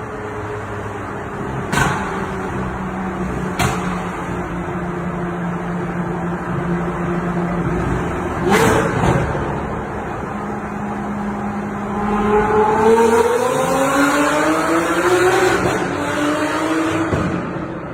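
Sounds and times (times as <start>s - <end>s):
car engine in a tunnel: 0.0s - 17.9s.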